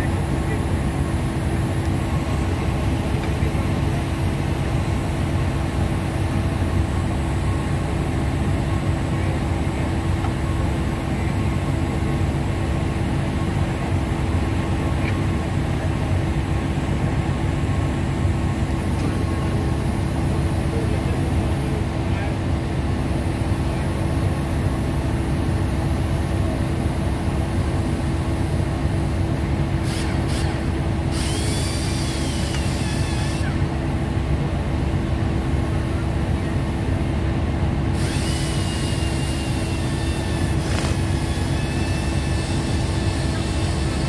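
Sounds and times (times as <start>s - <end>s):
constant hum: 0.0s - 44.0s
low drone of ship machinery: 0.0s - 44.0s.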